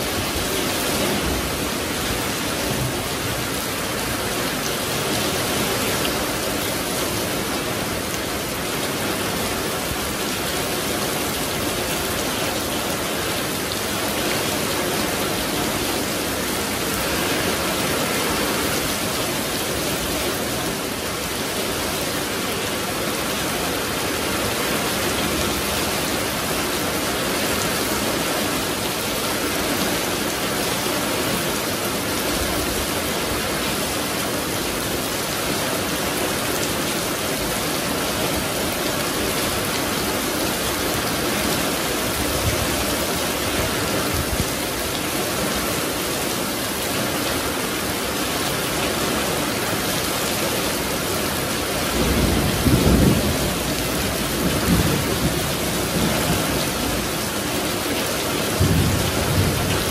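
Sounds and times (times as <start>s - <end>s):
heavy rain on paving: 0.0s - 59.9s.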